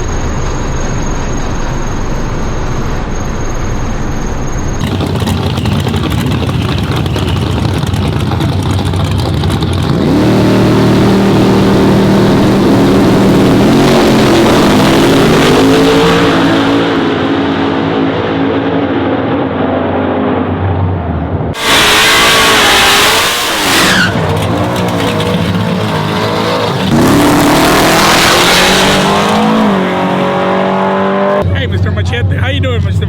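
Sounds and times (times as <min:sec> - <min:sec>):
truck engine running hard: 0:00.0 - 0:33.0.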